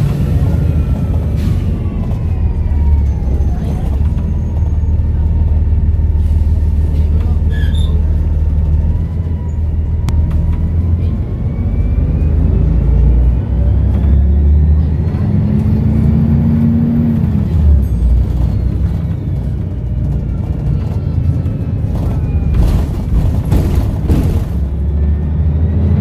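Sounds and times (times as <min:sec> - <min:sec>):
diesel bus engine rumbling: 0:00.0 - 0:26.0.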